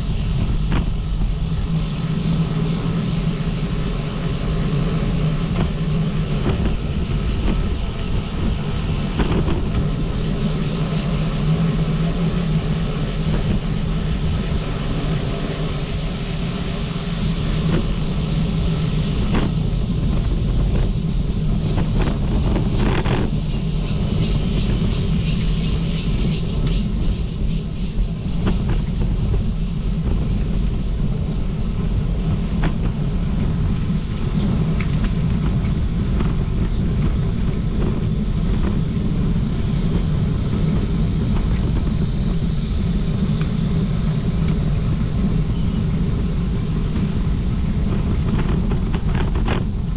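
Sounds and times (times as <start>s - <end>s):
low rumble of travel noise: 0.0s - 49.9s.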